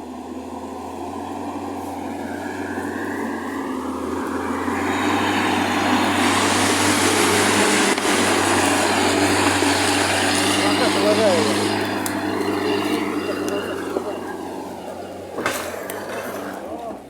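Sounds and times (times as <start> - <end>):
van engine approaching: 0.0 - 17.0.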